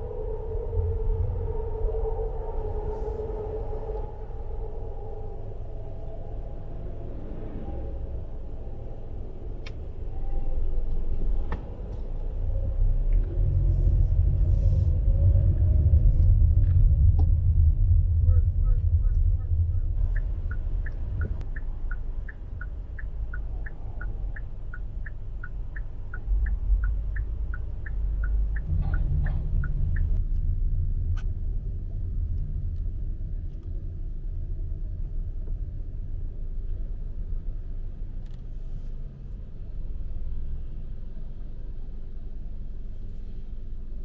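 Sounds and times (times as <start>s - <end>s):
street traffic rumble: 0.0s - 44.0s.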